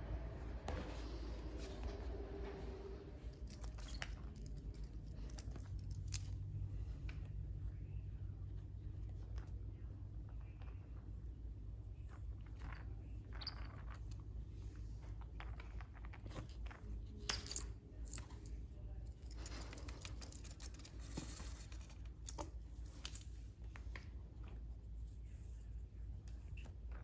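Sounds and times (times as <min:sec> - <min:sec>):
cat toy crinkling and rustling: 0:03.2 - 0:07.2, 0:08.8 - 0:27.0.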